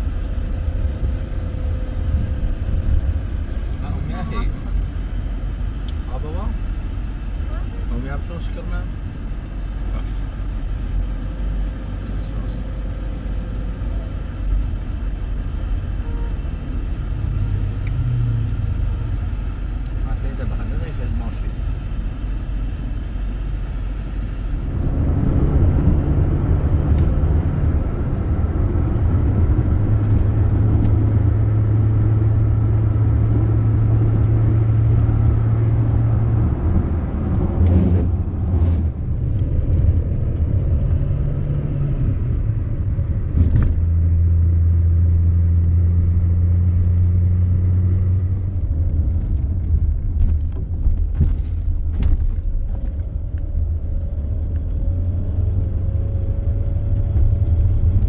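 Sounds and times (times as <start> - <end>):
motor vehicle drone: 0.0 - 58.0.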